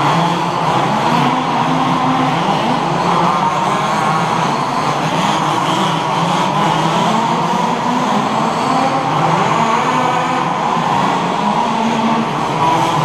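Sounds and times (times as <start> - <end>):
rc buggy engines buzzing: 0.0 - 13.0.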